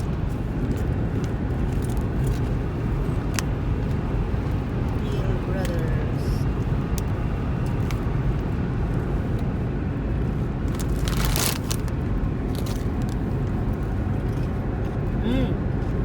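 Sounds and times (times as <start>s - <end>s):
car driving rumble inside cabin: 0.0s - 16.0s.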